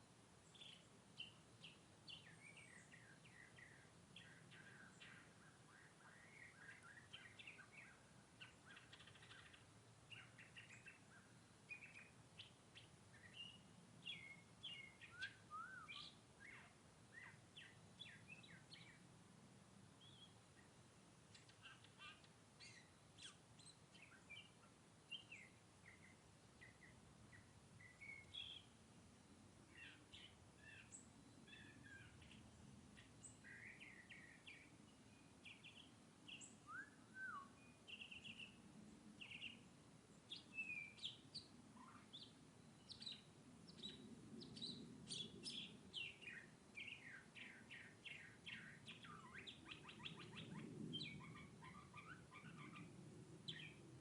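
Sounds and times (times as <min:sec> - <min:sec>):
mockingbird singing faintly: 0:00.0 - 0:19.2, 0:19.8 - 0:54.0.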